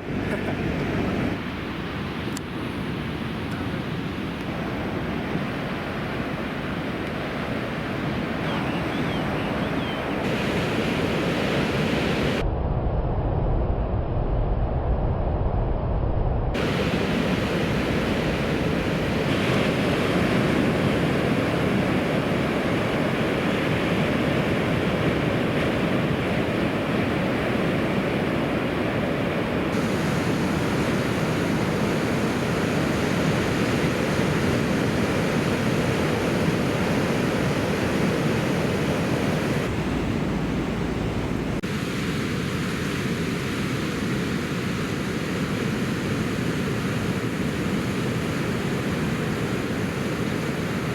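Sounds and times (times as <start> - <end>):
ocean surf breaking: 0.0 - 12.4, 16.6 - 50.9.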